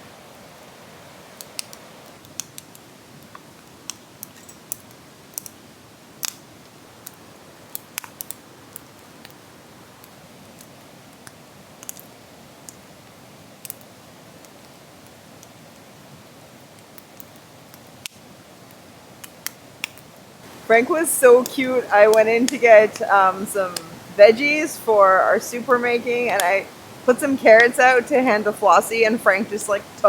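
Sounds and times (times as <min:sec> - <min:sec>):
steady fire hiss: 0:00.0 - 0:30.0
campfire crackling and popping: 0:00.3 - 0:30.0.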